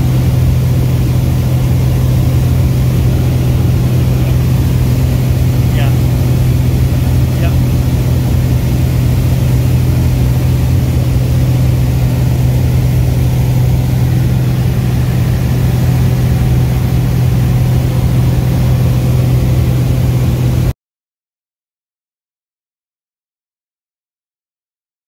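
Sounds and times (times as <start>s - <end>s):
light aircraft engine droning: 0.0s - 20.7s.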